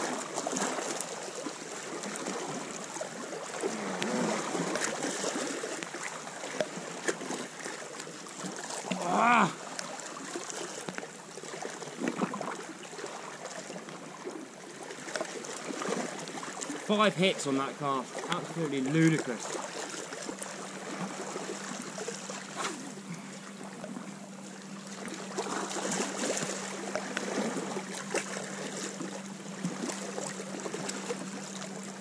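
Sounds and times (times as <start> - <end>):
sea water lapping against rocks: 0.0 - 32.0.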